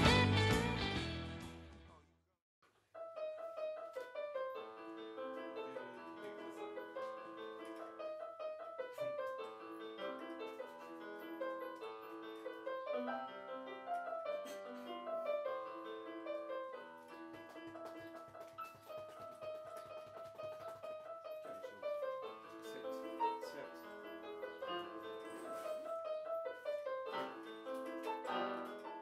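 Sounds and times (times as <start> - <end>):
electronic keyboard melody: 3.0 - 29.0.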